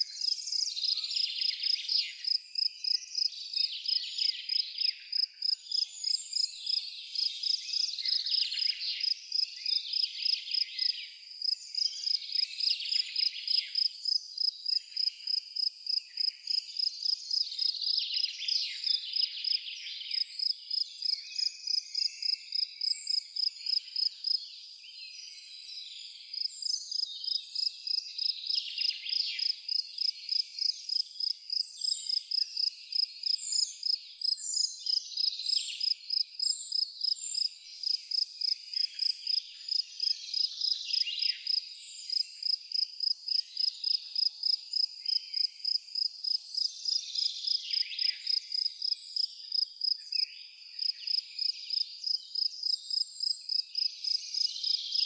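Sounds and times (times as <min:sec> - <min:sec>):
insect chirping: 0:00.0 - 0:24.4, 0:26.3 - 0:55.0.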